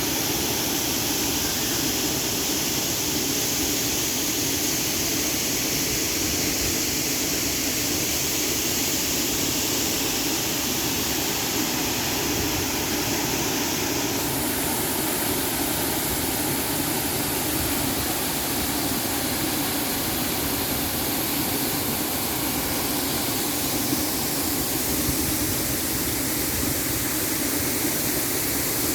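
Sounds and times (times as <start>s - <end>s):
waterfall: 0.0s - 28.9s.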